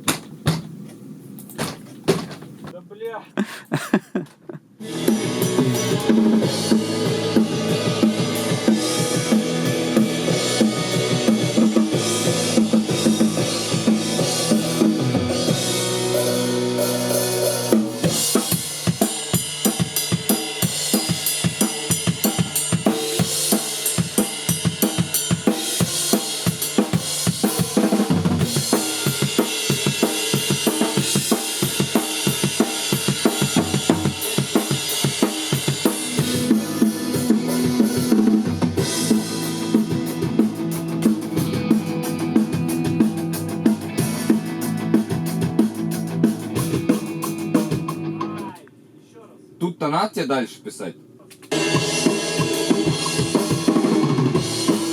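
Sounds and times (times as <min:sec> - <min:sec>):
rock music with drums: 0:04.8 - 0:48.6, 0:51.5 - 0:54.9.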